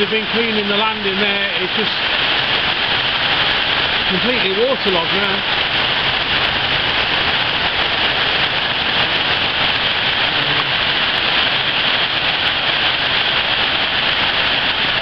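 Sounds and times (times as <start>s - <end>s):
heavy rain on standing water: 0.0s - 15.0s.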